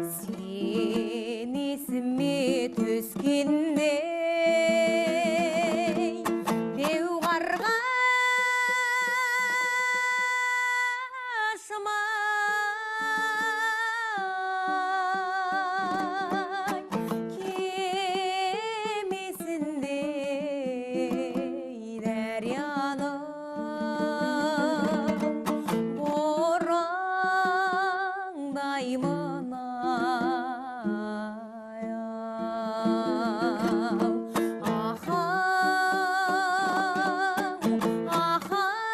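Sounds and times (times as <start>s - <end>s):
plucked string accompaniment: 0.0s - 38.9s
woman singing with vibrato: 0.0s - 38.9s.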